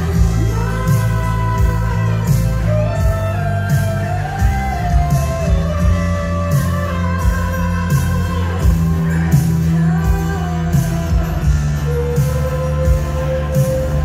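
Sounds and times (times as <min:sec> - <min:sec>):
drum beat with cymbals: 0:00.0 - 0:14.0
electric guitar bending notes: 0:00.0 - 0:14.0
heavy bass: 0:00.0 - 0:14.0.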